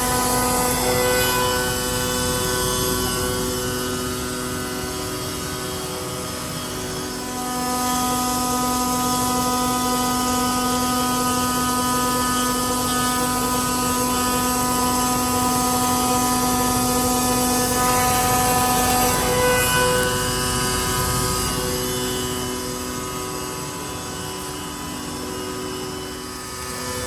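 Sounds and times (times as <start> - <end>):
router spindle whining: 0.0 - 27.0.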